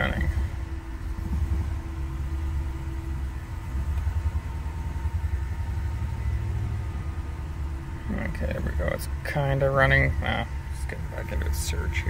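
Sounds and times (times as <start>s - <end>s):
engine running roughly: 0.0s - 12.0s.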